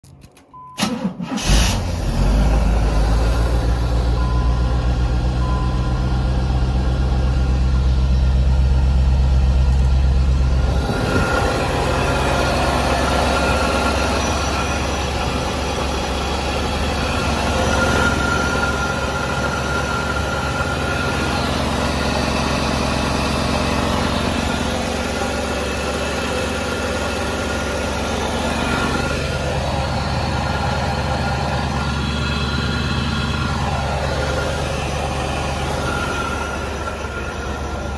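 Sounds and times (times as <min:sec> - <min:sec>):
car engine idling: 0:00.8 - 0:37.9.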